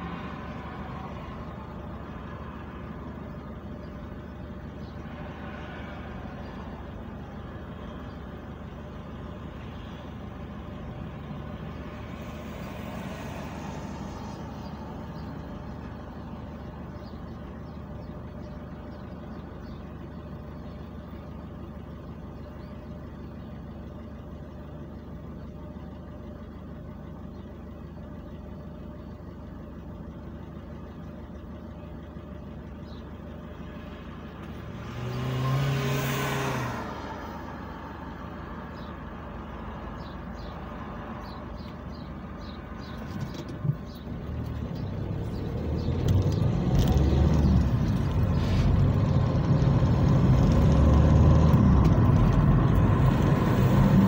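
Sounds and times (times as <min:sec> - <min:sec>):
car engine idling: 0:00.0 - 0:35.7, 0:36.8 - 0:54.0.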